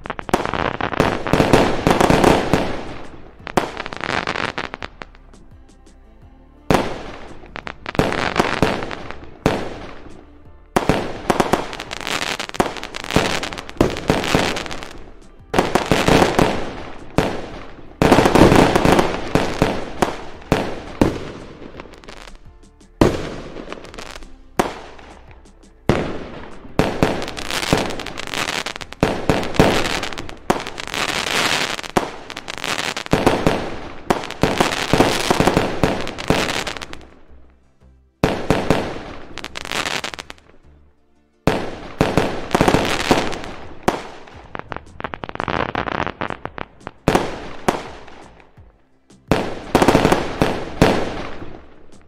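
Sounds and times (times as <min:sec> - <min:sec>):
fireworks bursting: 0:00.0 - 0:37.6, 0:38.2 - 0:40.7, 0:41.4 - 0:52.0.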